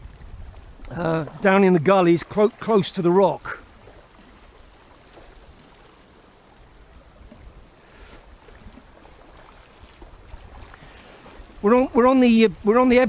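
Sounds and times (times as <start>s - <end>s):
sea lapping against rocks: 0.0s - 13.0s.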